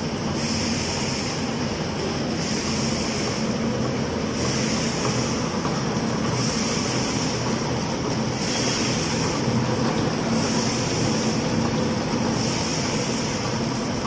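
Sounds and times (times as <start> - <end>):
high machine hiss: 0.0 - 14.0
packing machine humming: 0.0 - 14.0.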